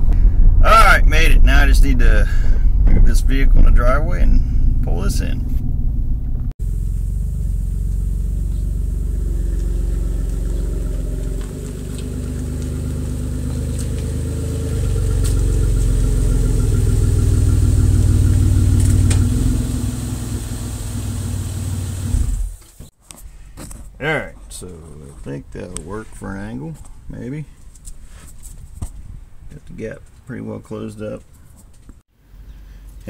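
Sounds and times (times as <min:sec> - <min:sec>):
open exhaust engine rumble: 0:00.0 - 0:33.0.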